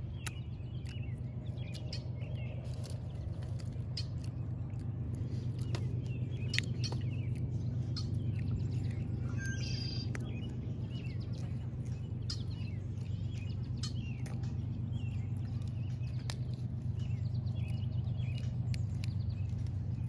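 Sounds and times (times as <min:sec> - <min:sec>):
lettuce leaves crunching: 0:00.0 - 0:20.0
small birds chirping: 0:00.0 - 0:20.0
steady low rumble: 0:00.0 - 0:20.0.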